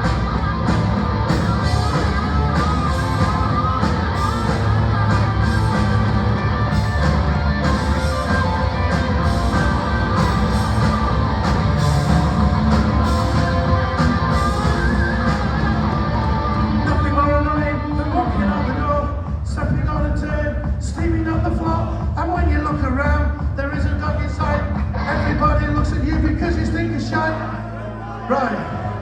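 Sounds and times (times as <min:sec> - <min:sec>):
punk rock band playing: 0:00.0 - 0:27.4.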